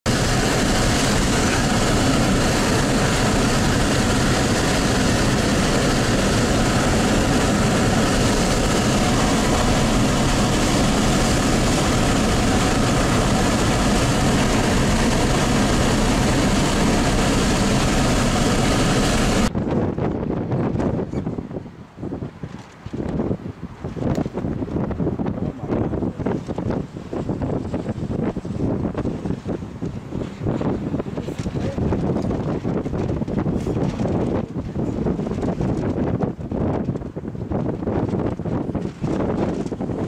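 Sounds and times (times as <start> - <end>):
wind blowing across microphone: 0.0 - 40.0.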